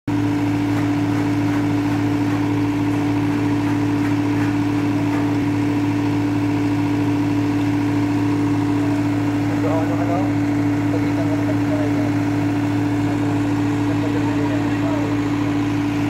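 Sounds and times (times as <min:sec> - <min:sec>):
truck engine idling: 0:00.1 - 0:16.0.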